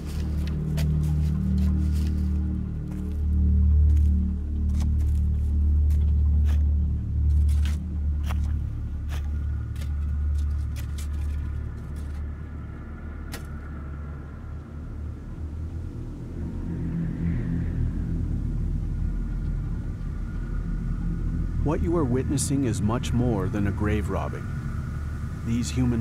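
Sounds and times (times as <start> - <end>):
deep steady rumble: 0.0 - 26.0.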